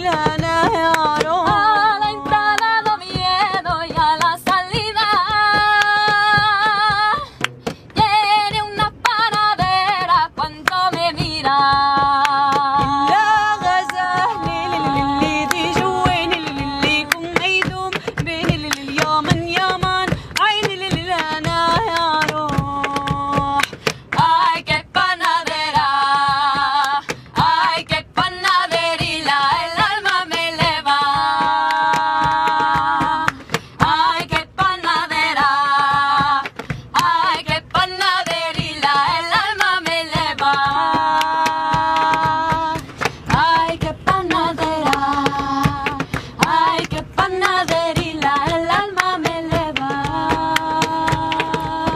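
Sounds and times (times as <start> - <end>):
rhythmic hand claps: 0.0 - 51.9
women singing: 0.0 - 51.9.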